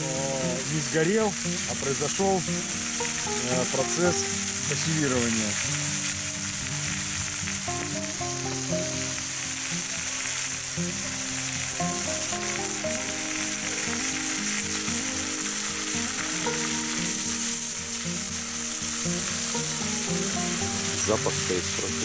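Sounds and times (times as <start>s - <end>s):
meat and onions sizzling in oil: 0.0s - 22.0s.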